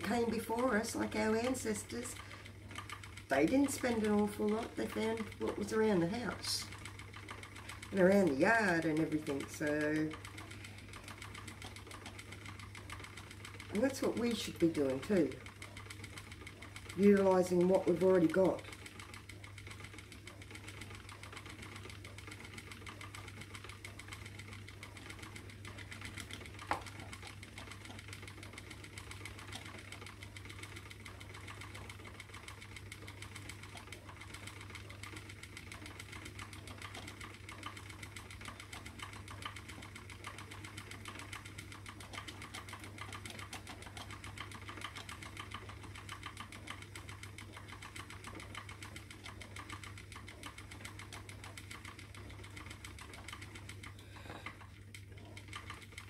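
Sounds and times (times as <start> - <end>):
spinning wheel whirring: 0.0 - 56.0.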